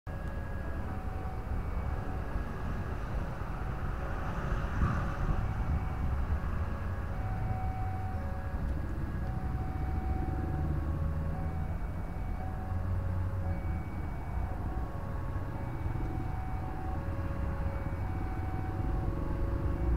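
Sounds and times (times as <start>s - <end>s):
electric train rumbling: 0.1s - 19.9s
faint whining tones: 0.1s - 19.9s.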